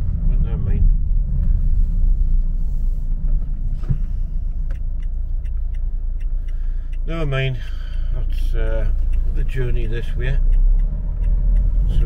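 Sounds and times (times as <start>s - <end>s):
car engine rumble inside cabin: 0.0s - 12.0s
tyres on road: 0.0s - 12.0s.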